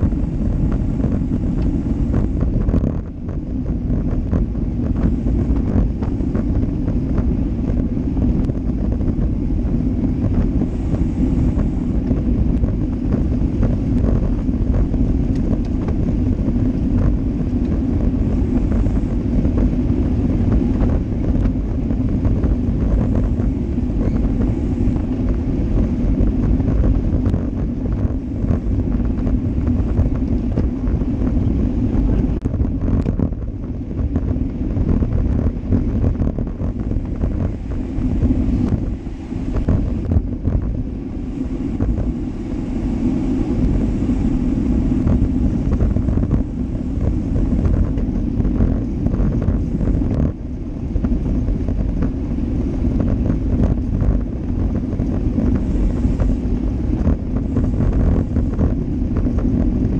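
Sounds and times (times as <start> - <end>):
tyres rumbling on asphalt: 0.0 - 59.9
wind on microphone: 0.0 - 59.9.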